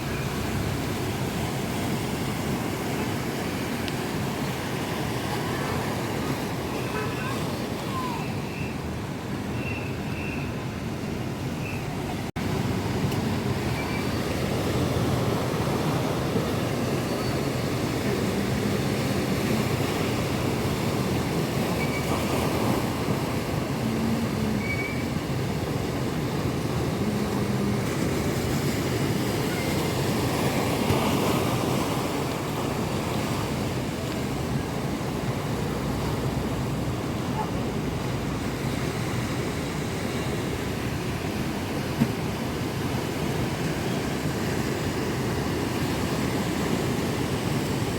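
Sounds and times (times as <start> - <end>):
waves surging and breaking: 0.0 - 47.9
wind blowing: 0.0 - 47.9.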